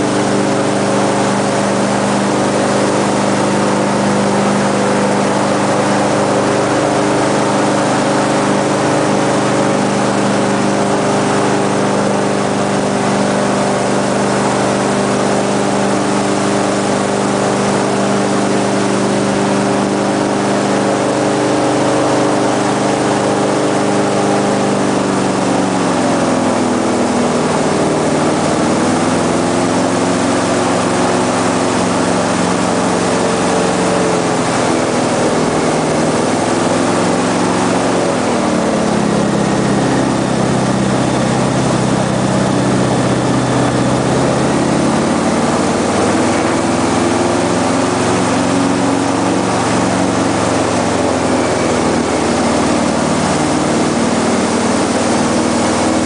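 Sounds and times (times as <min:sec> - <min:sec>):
airboat engine and propeller: 0:00.0 - 0:56.0.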